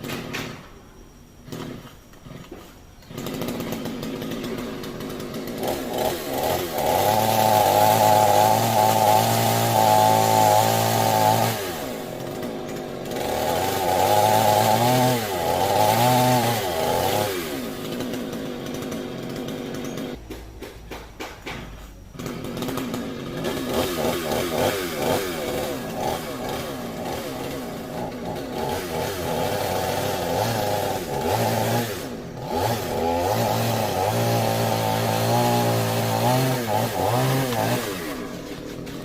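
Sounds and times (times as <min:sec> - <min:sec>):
chainsaw cutting wood: 0:00.0 - 0:00.7, 0:01.4 - 0:39.0.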